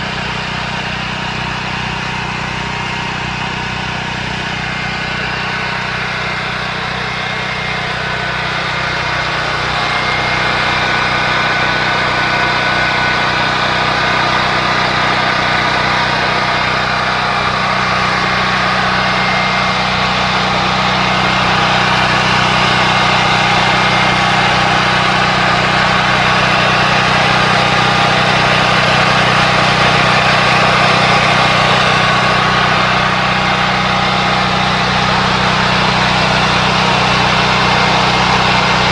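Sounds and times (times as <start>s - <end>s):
generator engine running: 0.0s - 38.9s.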